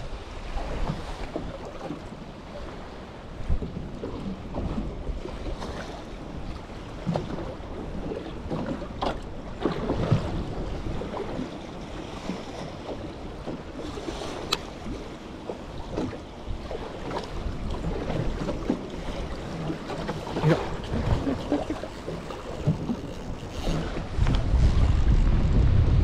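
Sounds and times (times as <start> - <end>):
water lapping against boat hull: 0.0 - 26.0
wind on microphone: 0.0 - 26.0.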